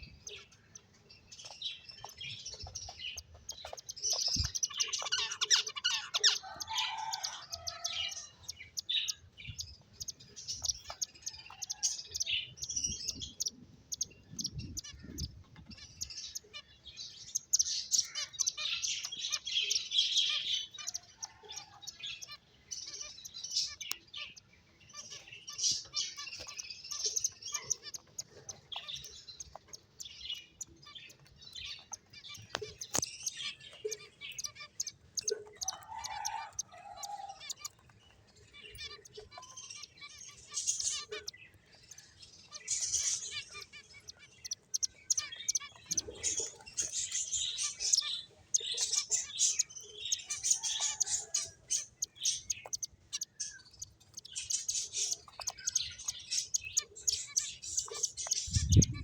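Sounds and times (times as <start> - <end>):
finches chirping: 0.0 - 59.0.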